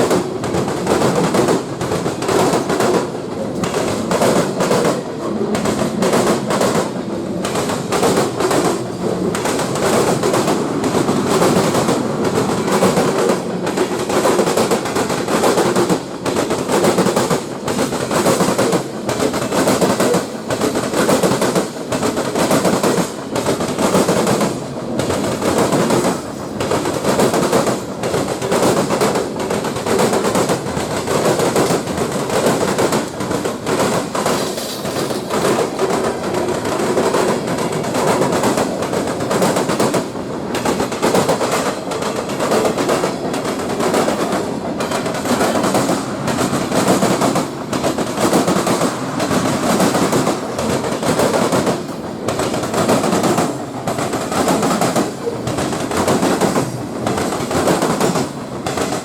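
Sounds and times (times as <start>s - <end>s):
train wheels clattering on rails: 0.0s - 59.0s.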